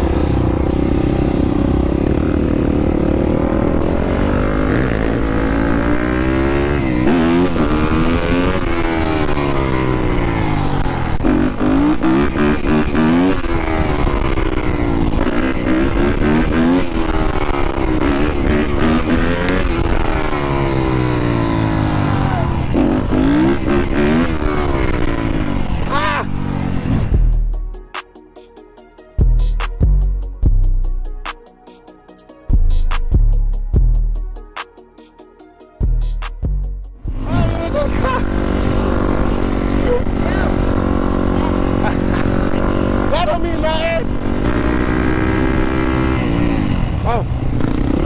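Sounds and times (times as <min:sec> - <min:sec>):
dirt bike engine revving: 0:00.0 - 0:27.5, 0:37.0 - 0:48.0.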